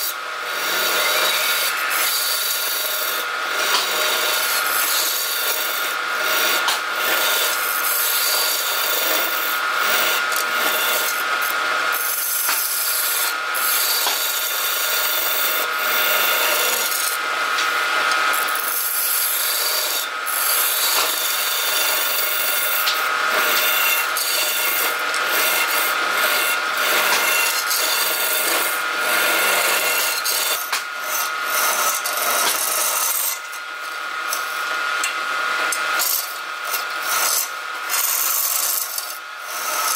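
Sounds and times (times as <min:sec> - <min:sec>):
steel tool scraping wood: 0:00.0 - 0:34.5.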